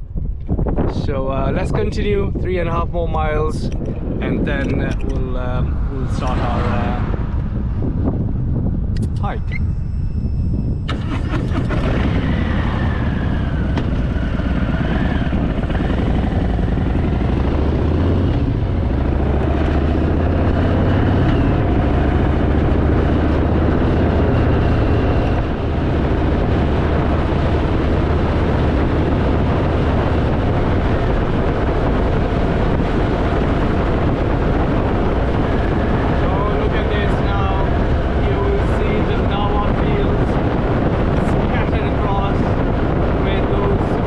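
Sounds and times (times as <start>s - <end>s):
motorcycle engine rumbling: 0.0s - 44.0s
wind on microphone: 0.0s - 44.0s.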